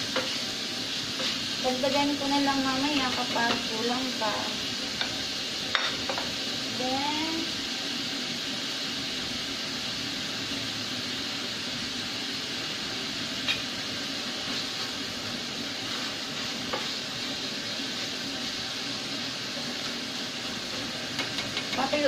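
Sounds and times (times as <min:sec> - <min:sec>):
meat sizzling in a saucepan: 0:00.0 - 0:22.0.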